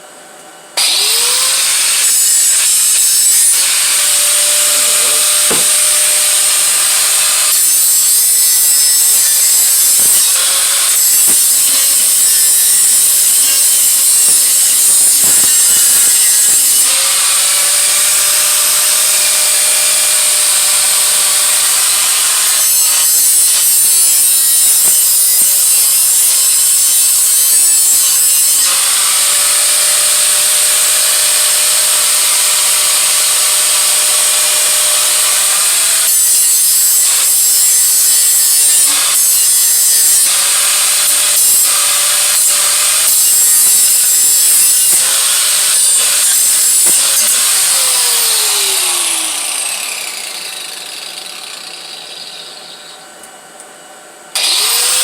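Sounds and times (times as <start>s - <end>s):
grinder spinning down: 0.8s - 27.5s, 28.6s - 53.0s, 54.4s - 55.0s
electric grinder grinding metal: 0.8s - 53.1s, 54.3s - 55.0s.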